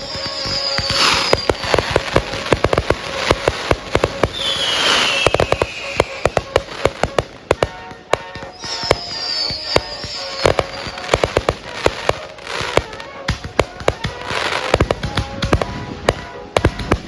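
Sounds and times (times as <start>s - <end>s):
firework whistles falling in pitch: 0.0s - 17.0s
fireworks bangs and crackling: 0.0s - 17.0s.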